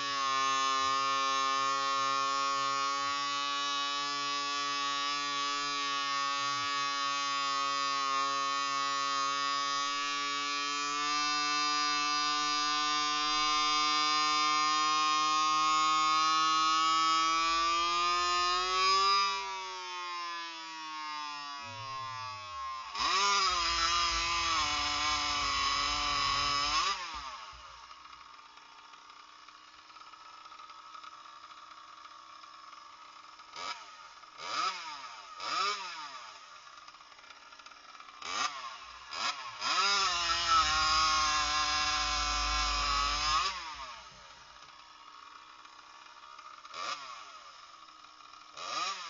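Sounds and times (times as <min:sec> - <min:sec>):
two-stroke engine revving: 0:00.0 - 0:49.0.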